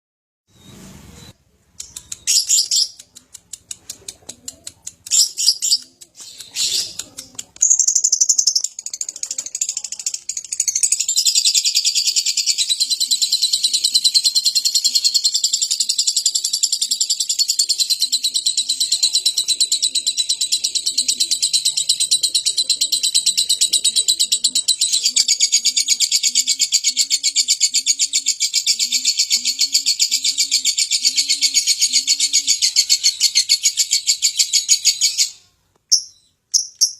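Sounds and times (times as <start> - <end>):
bird chirps: 0.5 - 3.2, 5.0 - 36.9
fast rattling bird trill: 5.1 - 35.1.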